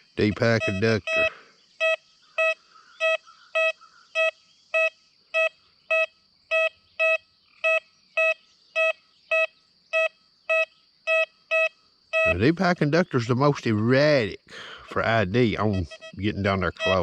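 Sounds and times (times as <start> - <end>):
metal detector beeps: 0.2 - 12.6, 15.5 - 17.0.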